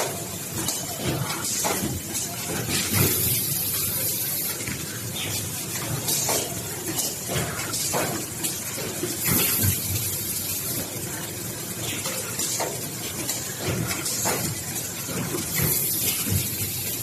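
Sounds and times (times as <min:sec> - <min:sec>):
steady machinery hiss: 0:02.5 - 0:06.9, 0:07.5 - 0:17.0.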